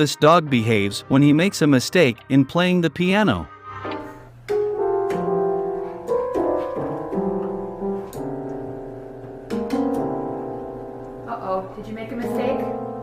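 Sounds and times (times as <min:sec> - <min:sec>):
piano notes: 0:00.0 - 0:13.0.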